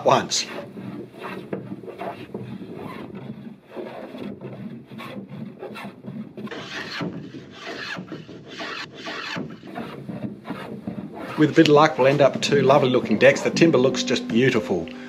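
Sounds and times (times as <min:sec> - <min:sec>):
hand tool scraping wood: 0:00.0 - 0:14.0.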